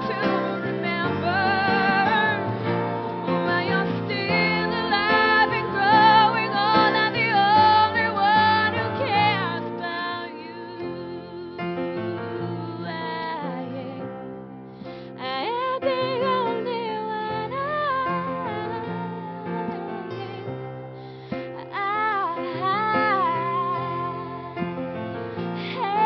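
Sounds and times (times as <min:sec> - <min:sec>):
woman singing with vibrato: 0:00.0 - 0:14.2, 0:15.1 - 0:20.7, 0:21.5 - 0:24.6, 0:25.6 - 0:26.0.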